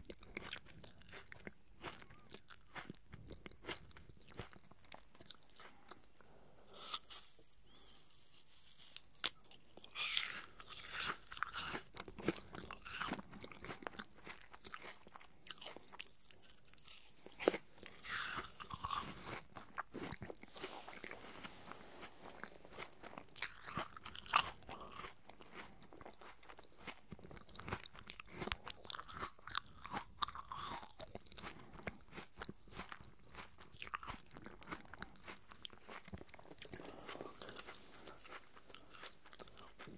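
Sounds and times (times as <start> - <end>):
apple being chewed: 0.0 - 39.9.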